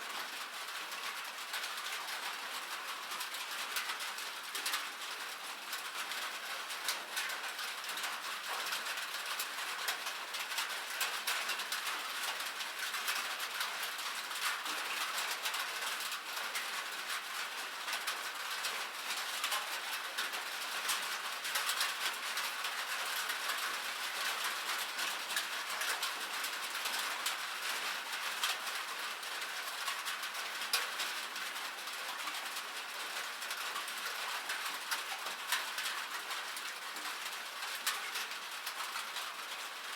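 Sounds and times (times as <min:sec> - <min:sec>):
rain pattering on a roof: 0:00.0 - 0:39.9.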